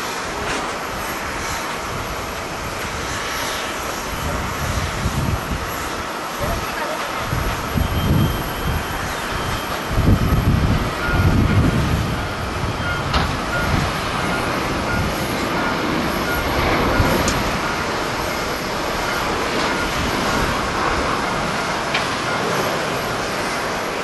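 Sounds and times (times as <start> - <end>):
jet engines roaring at takeoff: 0.0 - 24.0
wind buffeting microphone: 0.0 - 24.0.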